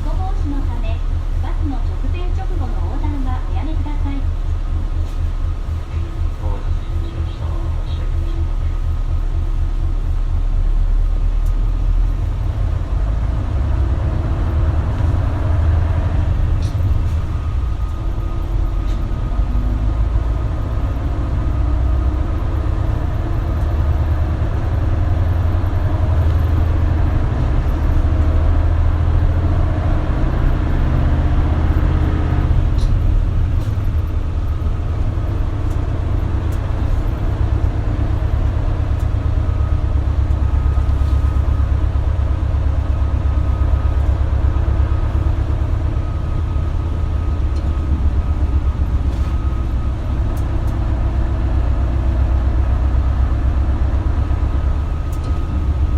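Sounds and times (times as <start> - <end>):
bus engine rumble: 0.0 - 55.9
road noise: 0.0 - 55.9.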